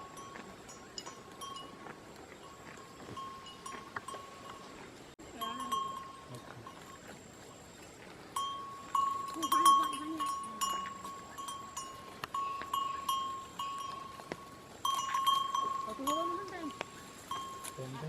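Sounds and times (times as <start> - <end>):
goat bells clanking: 0.0 - 18.0.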